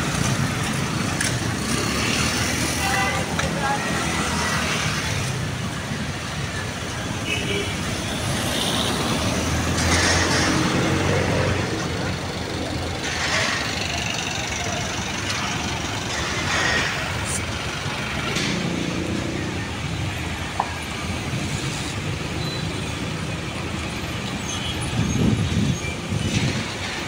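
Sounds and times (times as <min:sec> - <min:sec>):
vehicles passing close by: 0:00.0 - 0:27.0.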